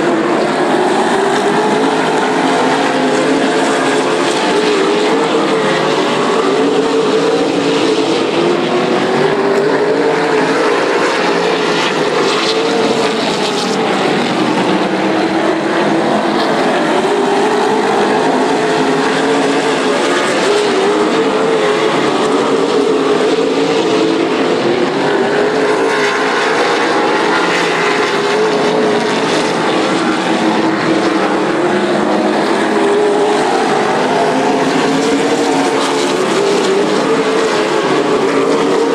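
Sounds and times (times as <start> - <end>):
racing car engines droning: 0.0 - 38.9.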